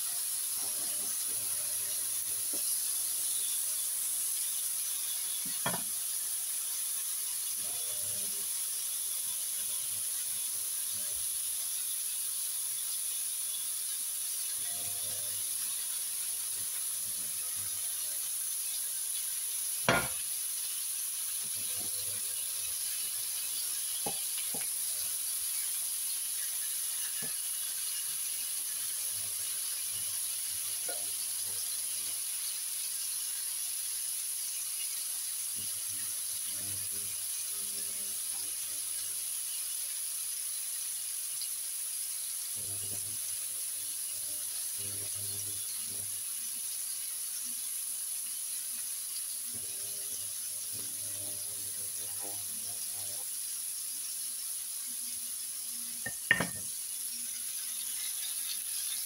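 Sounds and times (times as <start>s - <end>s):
bacon sizzling in a pan: 0.0s - 59.0s.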